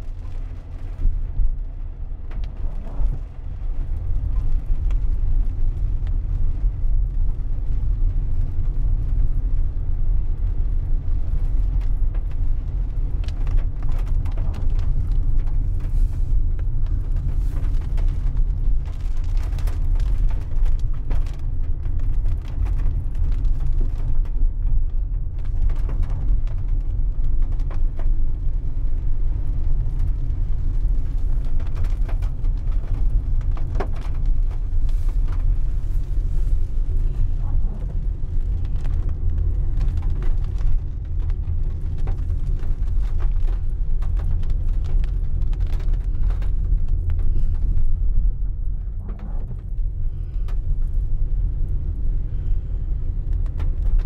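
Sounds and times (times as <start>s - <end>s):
raindrops hitting windscreen: 0.0s - 54.0s
road rumble inside a car: 0.0s - 54.0s.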